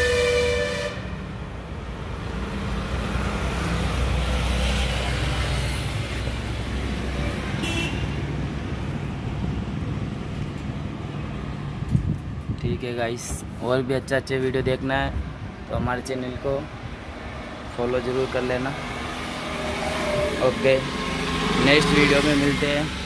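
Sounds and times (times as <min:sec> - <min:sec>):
vehicles passing on a street: 0:00.0 - 0:23.0.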